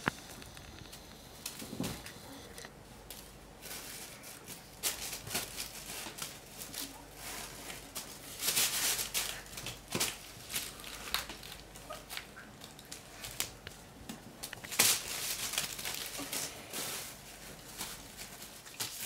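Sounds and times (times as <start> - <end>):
plastic bag crinkling: 0.0 - 13.8, 14.4 - 19.0.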